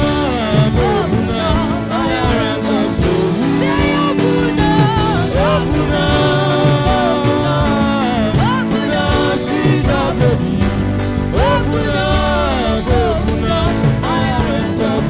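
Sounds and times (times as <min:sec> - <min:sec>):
held instrumental chords: 0:00.0 - 0:15.0
person singing worship music: 0:00.0 - 0:15.0.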